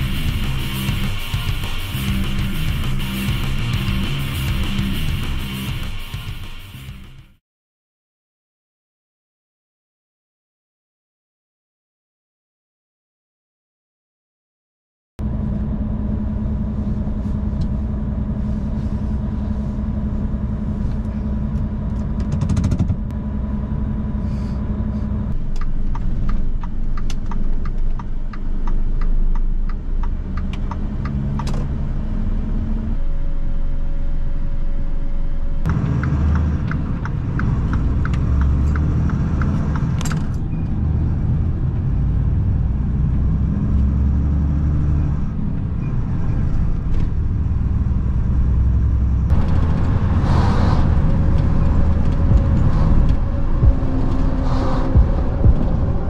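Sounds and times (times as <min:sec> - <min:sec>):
diesel engine running: 0:00.0 - 0:07.4, 0:15.2 - 0:56.0.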